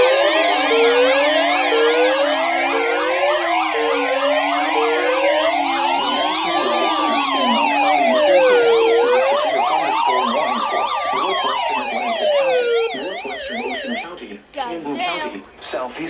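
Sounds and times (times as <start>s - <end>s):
wailing siren: 0.0s - 14.1s
yelping siren: 0.0s - 14.1s.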